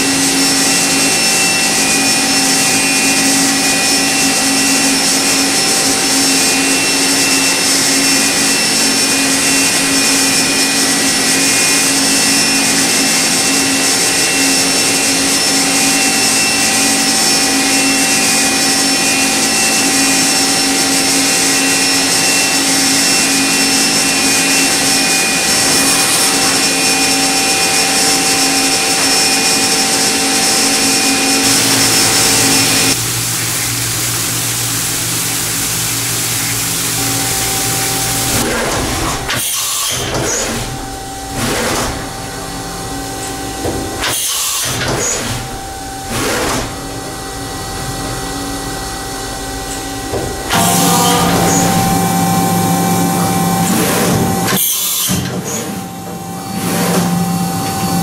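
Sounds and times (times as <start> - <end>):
machine spindle whine: 0.0 - 58.0.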